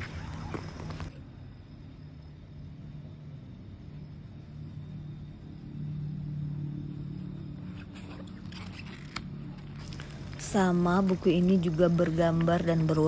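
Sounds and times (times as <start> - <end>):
low rumbling hum: 0.0 - 13.0.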